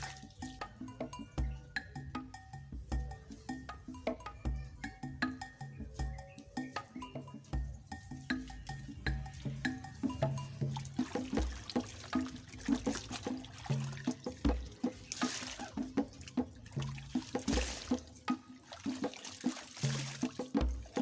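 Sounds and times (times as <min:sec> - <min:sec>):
looping background music: 0:00.0 - 0:21.0.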